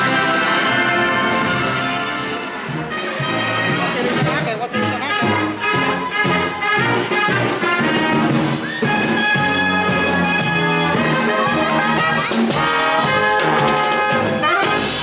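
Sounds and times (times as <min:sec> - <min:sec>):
marching brass band playing: 0:00.0 - 0:15.0.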